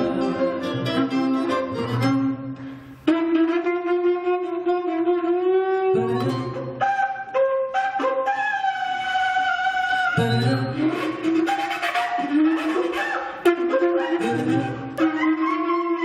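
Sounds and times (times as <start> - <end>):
low instrument notes: 0.0 - 16.0
wind instrument long notes: 0.0 - 16.0.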